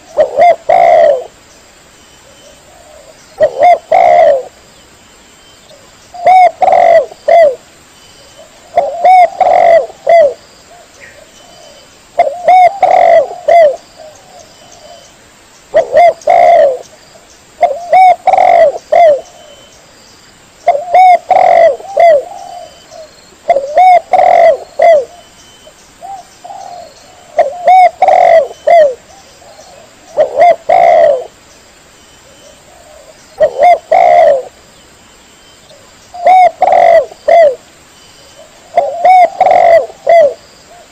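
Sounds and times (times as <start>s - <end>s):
dove cooing: 0.0s - 1.4s, 2.2s - 4.6s, 5.7s - 7.6s, 8.2s - 15.1s, 15.7s - 16.9s, 17.6s - 19.7s, 20.6s - 25.3s, 26.0s - 31.4s, 32.2s - 34.6s, 35.7s - 37.6s, 38.3s - 40.9s.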